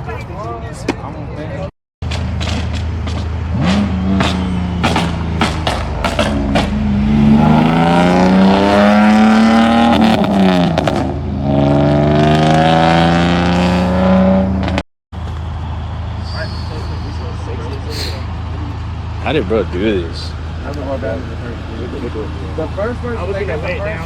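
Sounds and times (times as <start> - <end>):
car engine accelerating: 2.0 - 24.0.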